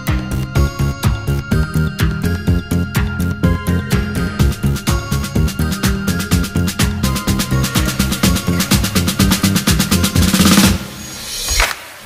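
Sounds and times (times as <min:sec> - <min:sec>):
electronic music with quick beat: 0:00.0 - 0:11.7.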